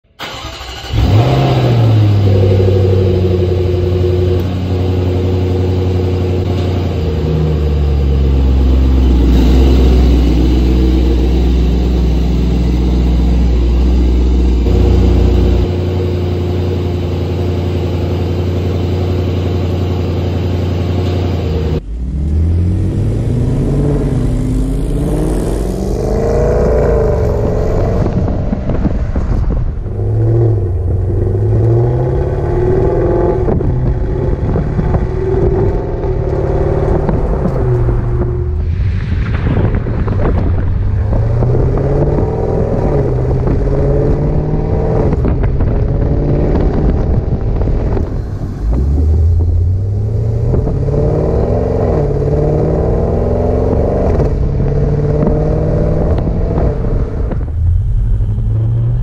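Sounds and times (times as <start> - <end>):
car engine idling: 0.2 - 38.6, 40.0 - 59.0
car engine revving: 0.2 - 59.0.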